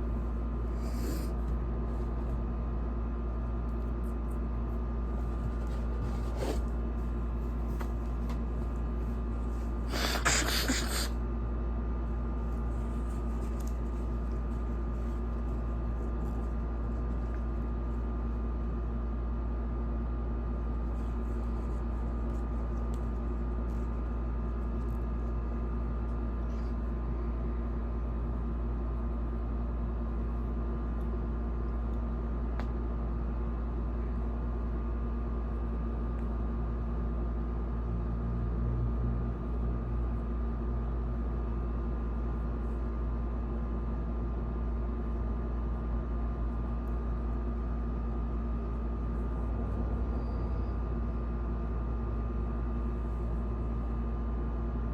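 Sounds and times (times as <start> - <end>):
low electrical hum: 0.0 - 54.9.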